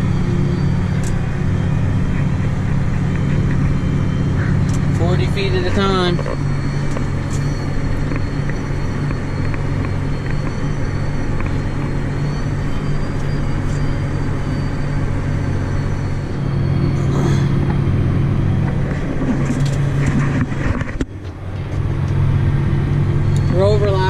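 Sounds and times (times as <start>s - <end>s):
faint high whine: 0.0s - 21.1s
tractor diesel engine drone: 0.0s - 24.0s.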